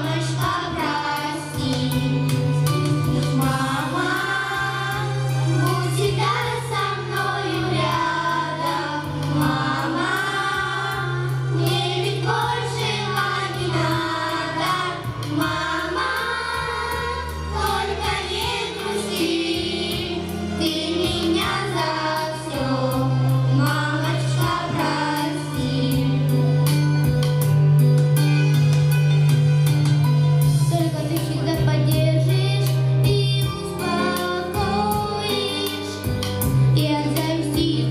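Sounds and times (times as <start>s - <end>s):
children singing together: 0.0s - 26.7s, 31.2s - 36.2s
instrumental accompaniment: 0.0s - 37.9s.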